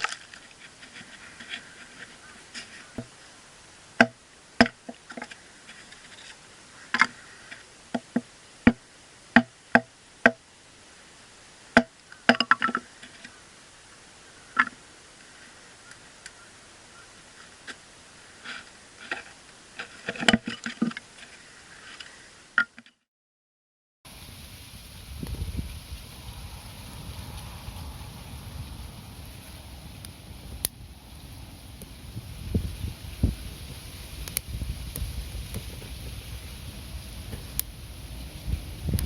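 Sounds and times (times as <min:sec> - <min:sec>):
faint steady hiss: 0:00.0 - 0:22.9, 0:24.1 - 0:39.0.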